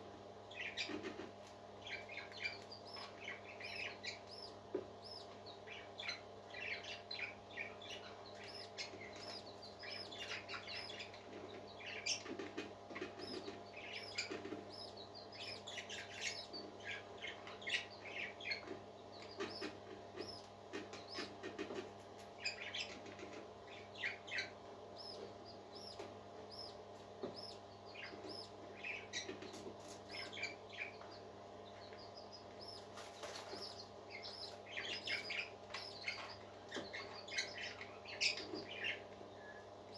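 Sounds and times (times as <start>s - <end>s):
steady low hum: 0.0s - 39.9s
parakeets chattering and chirping: 0.5s - 39.9s.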